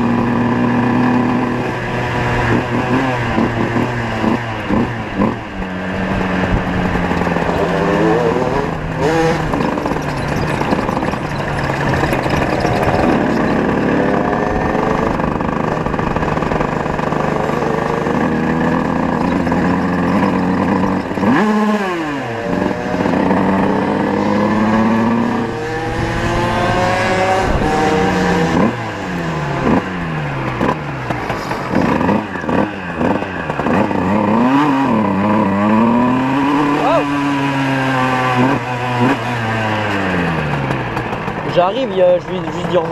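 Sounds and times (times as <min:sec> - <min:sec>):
moped engines revving: 0:00.0 - 0:42.9.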